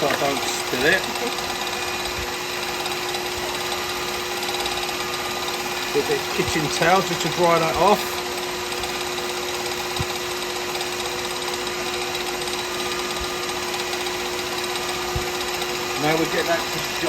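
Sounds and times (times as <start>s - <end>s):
wood lathe motor humming: 0.0s - 17.0s.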